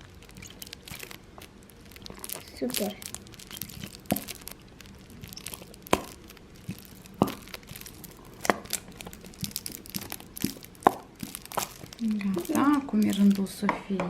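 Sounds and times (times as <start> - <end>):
crinkling plastic: 0.0 - 14.0.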